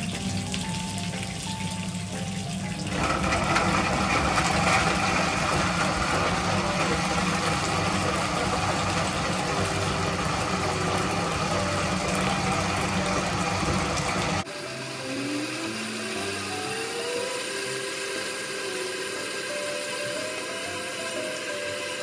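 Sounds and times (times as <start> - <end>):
blender motor running: 2.8 - 22.0.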